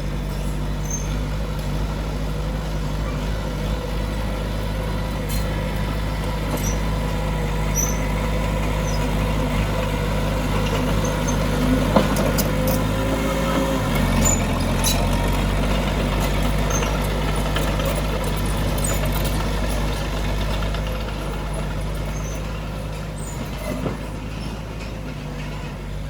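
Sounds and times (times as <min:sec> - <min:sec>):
diesel earthmoving machine running: 0:00.0 - 0:26.0.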